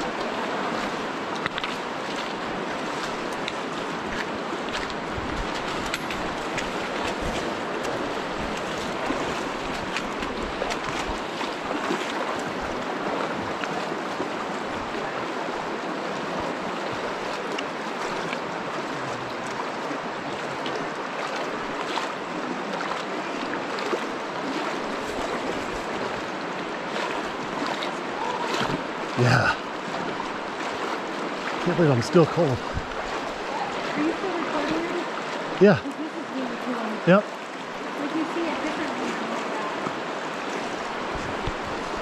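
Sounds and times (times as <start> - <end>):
river water rushing over stones: 0.0 - 42.0
small sharp water splashes: 0.0 - 42.0.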